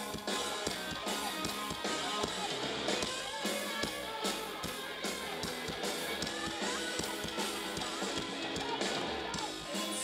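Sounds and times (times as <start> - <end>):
drum beat: 0.0 - 10.0
electric guitars strummed: 0.0 - 10.0.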